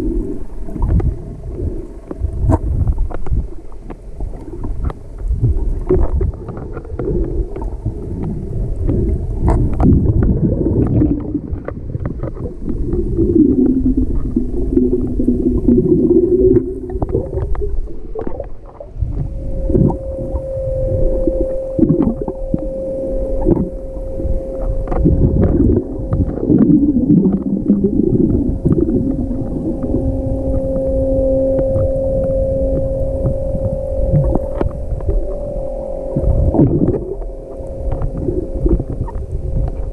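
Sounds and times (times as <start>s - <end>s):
low rumble of water underwater: 0.0s - 39.9s
steady hum: 0.0s - 39.9s.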